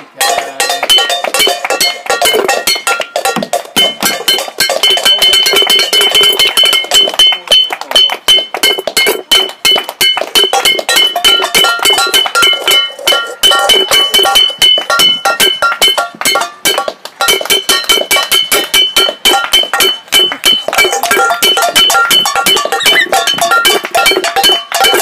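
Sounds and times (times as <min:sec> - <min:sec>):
wooden spoon striking metal pan: 0:00.2 - 0:25.0.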